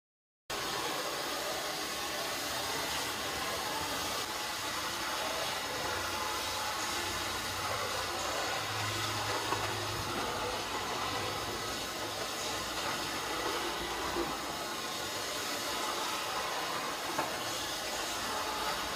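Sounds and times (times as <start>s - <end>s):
water spray hissing: 0.5s - 18.9s.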